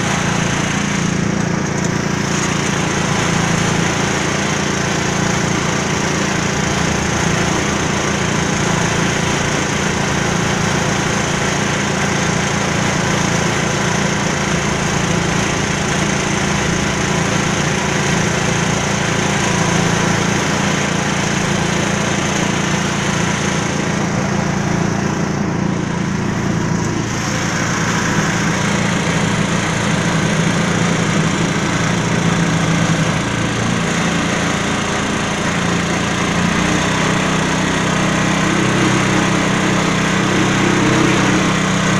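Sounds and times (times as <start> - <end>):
small diesel engine running: 0.0 - 41.9.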